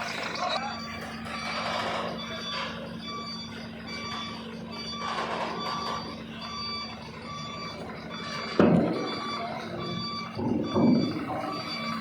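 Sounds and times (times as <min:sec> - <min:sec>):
engine humming: 0:00.0 - 0:12.0
reversing warning beeps: 0:00.0 - 0:12.0.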